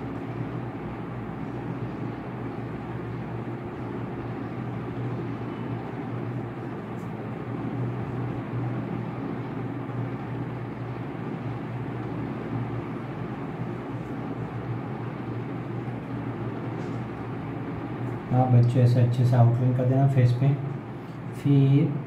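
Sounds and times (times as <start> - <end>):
low hum with hiss: 0.0 - 22.0.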